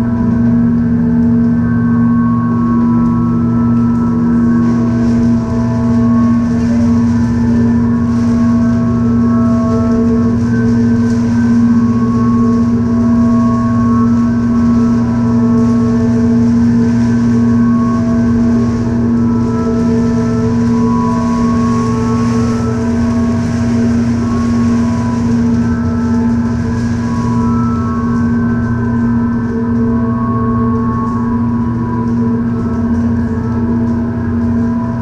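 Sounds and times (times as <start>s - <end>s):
electric blower fan humming: 0.0s - 35.0s.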